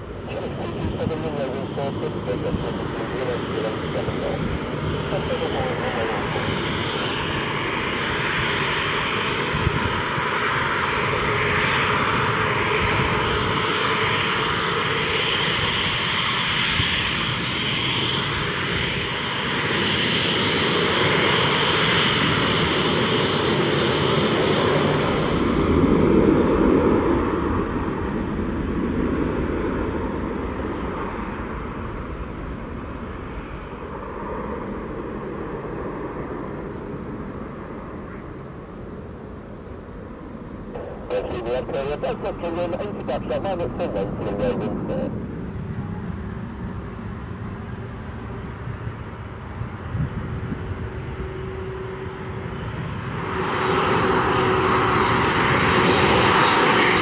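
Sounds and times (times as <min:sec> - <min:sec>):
airliner engines whining: 0:00.0 - 0:57.0.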